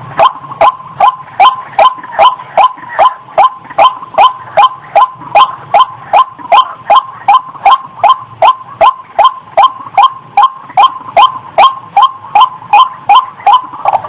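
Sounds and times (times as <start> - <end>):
waterhen harsh repeated calls: 0.1 - 14.0.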